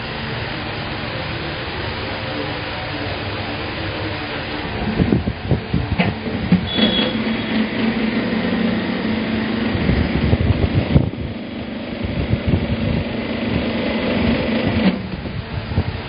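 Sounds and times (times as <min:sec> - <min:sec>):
motor and hydraulic pump humming: 0:00.0 - 0:16.0.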